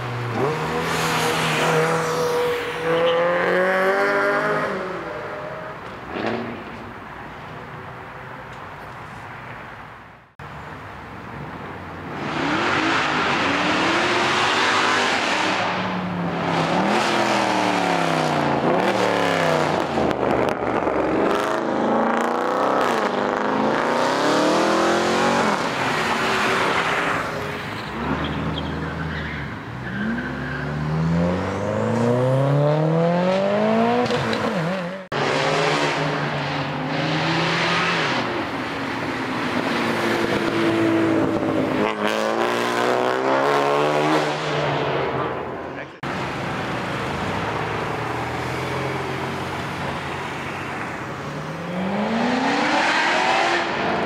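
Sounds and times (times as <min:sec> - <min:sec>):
car engines revving through gears: 0:00.0 - 0:05.5, 0:12.1 - 0:54.0.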